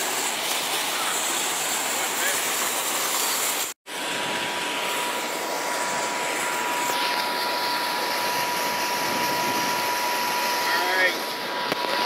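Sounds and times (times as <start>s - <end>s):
fountain splashing into water: 0.0s - 12.0s
thin steady whine: 0.0s - 12.0s.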